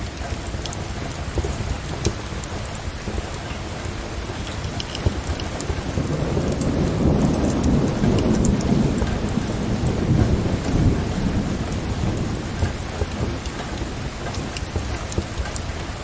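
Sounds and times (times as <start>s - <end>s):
heavy rain: 0.0s - 16.0s
low rolling thunder: 0.4s - 16.0s.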